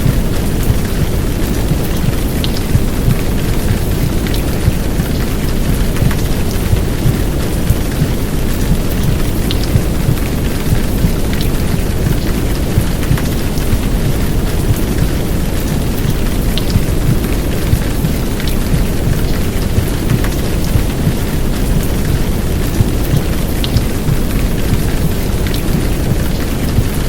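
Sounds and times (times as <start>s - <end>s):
heavy rain: 0.0s - 27.0s
muffled womb sound rumble: 0.0s - 27.0s.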